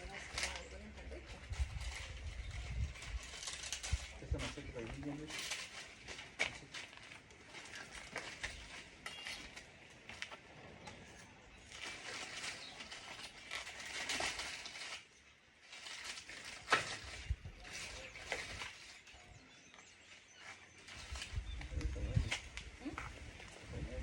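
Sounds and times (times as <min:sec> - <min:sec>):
dry leaves rustling and crunching: 0:00.0 - 0:23.9.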